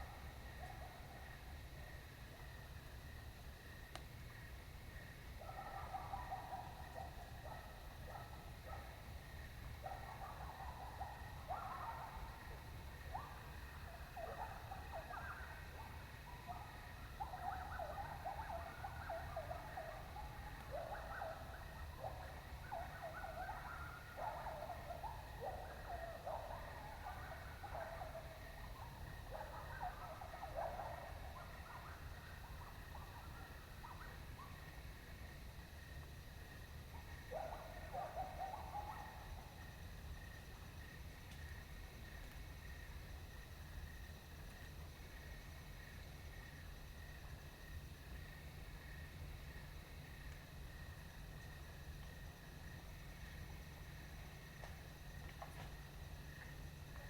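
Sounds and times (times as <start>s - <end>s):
coyotes yipping and howling: 0.0s - 57.0s.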